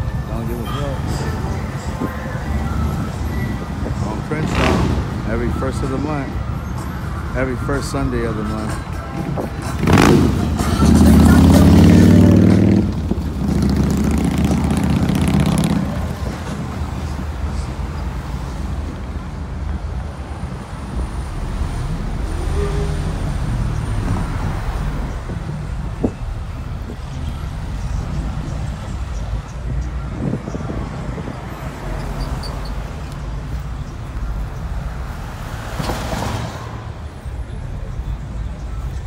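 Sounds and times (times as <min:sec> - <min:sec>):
street traffic rumble: 0:00.0 - 0:39.0.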